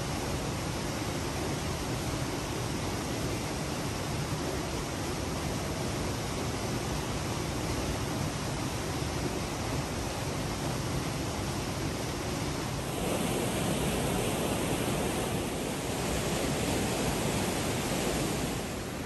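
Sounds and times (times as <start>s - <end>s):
water rushing over cascades: 0.0s - 19.0s.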